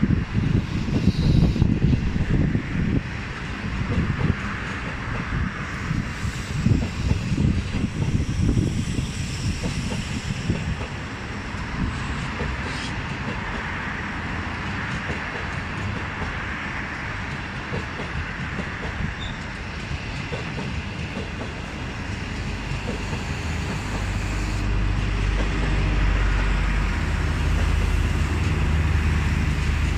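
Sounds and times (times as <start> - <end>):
train wheels clicking over rail joints: 2.9 - 29.9.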